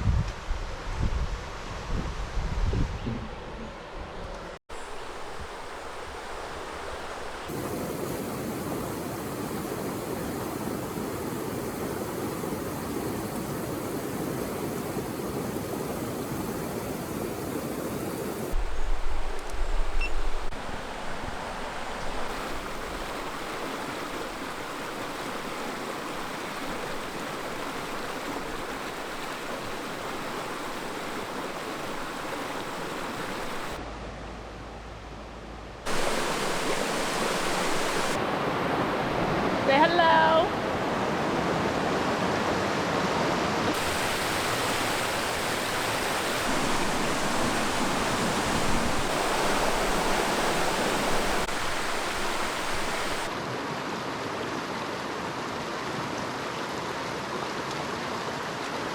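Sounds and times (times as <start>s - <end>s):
stream water rushing: 4.7s - 34.1s, 35.8s - 58.9s.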